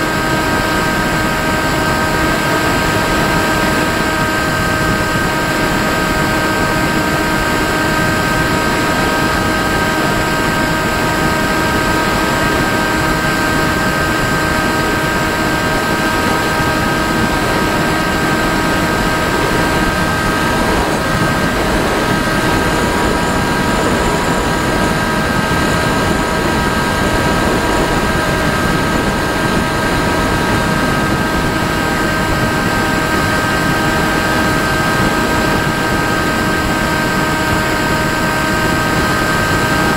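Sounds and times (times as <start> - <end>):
model aircraft motor whine: 0.0 - 39.9
wind rushing: 0.0 - 39.9.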